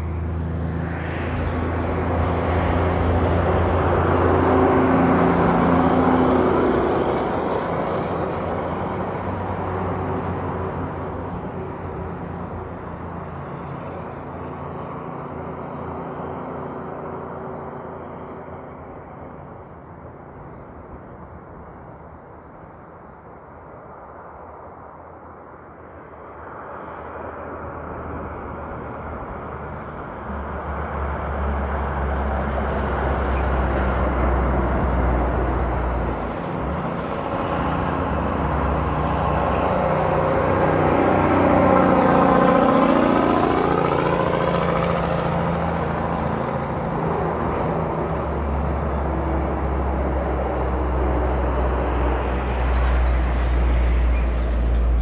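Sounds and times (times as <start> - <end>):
trucks driving past: 0.0 - 55.0.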